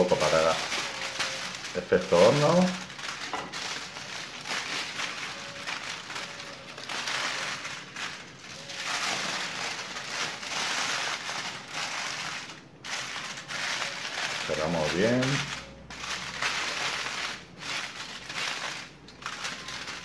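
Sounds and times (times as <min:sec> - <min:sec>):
aluminium foil crinkling: 0:00.0 - 0:20.0.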